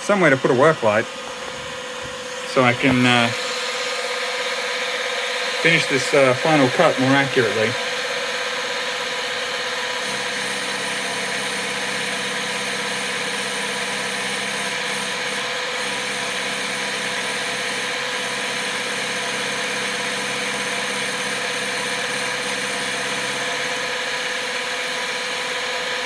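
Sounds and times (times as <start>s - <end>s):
lathe running: 0.0s - 19.0s, 20.2s - 26.0s.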